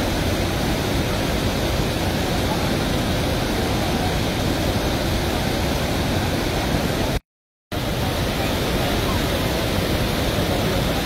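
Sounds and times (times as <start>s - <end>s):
floodwater pouring and churning: 0.0s - 11.0s.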